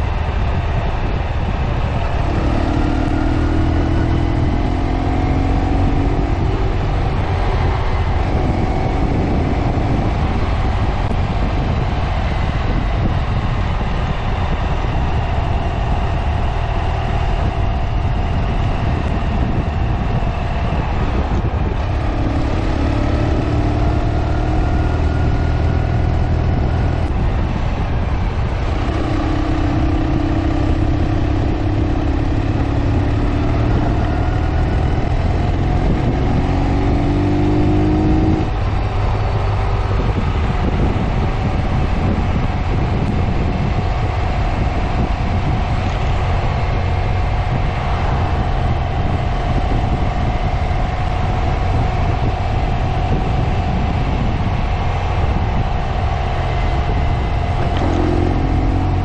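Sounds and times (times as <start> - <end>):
motorcycle engine running: 0.0 - 59.0
road rumble: 0.0 - 59.0
wind noise: 0.0 - 59.0.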